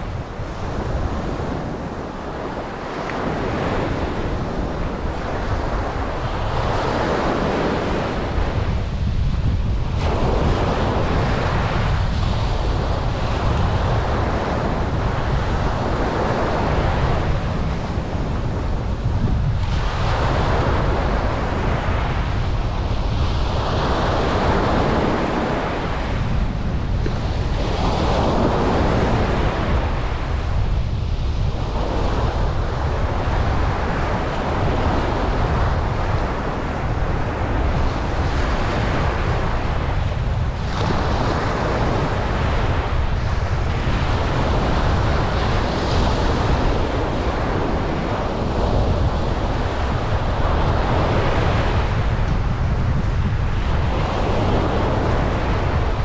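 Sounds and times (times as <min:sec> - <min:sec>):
ocean waves breaking on beach: 0:00.0 - 0:56.0
wind on microphone: 0:00.0 - 0:56.0.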